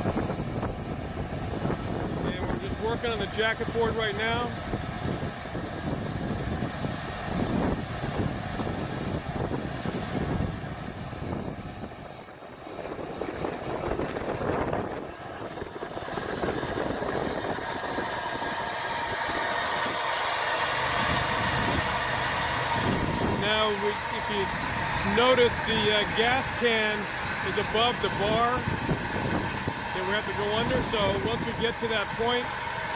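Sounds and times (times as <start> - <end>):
sawmill engine cutting log: 0.0 - 32.9.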